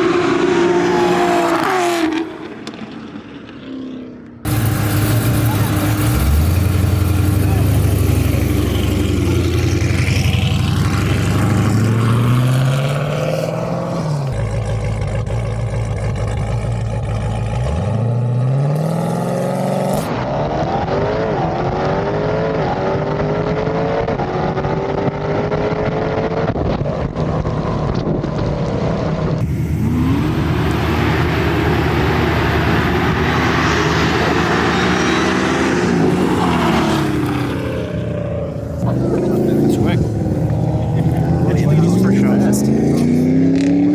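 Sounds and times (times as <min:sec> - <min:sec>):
car engines accelerating hard: 0:00.0 - 0:43.9.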